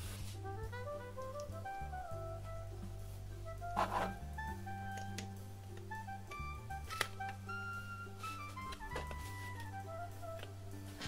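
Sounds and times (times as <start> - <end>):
light instrumental tune: 0.0 - 11.0
steady bass: 0.0 - 11.0.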